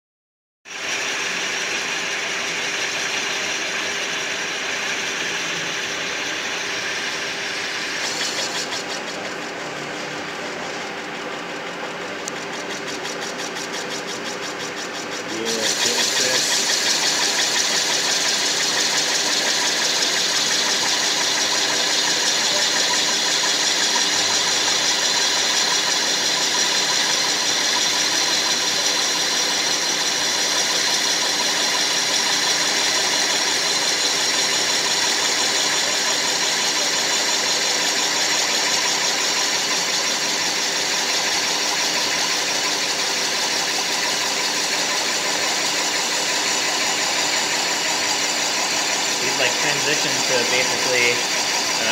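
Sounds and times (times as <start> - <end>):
lathe chuck humming: 0.7 - 51.9
lathe tool scraping plastic: 0.8 - 51.9.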